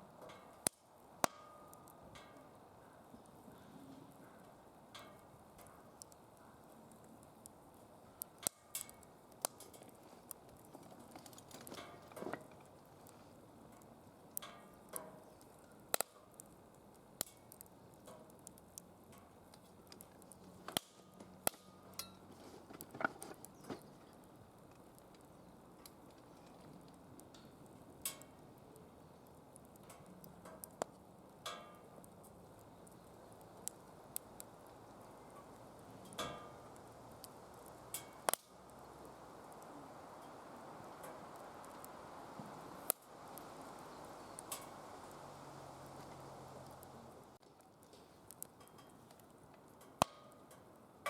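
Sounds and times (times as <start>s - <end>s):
firewood crackling and popping: 0.0s - 51.0s.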